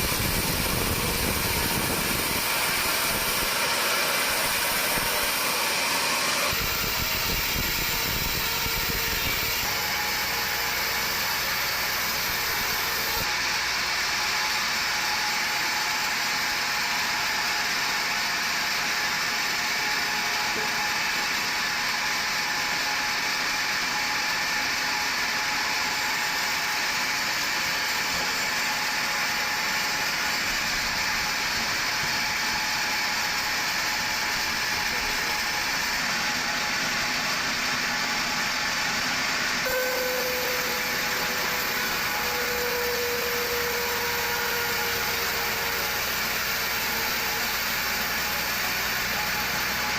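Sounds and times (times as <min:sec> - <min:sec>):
sawmill machinery running: 0:00.0 - 0:49.9
steady mechanical whine: 0:00.0 - 0:49.9.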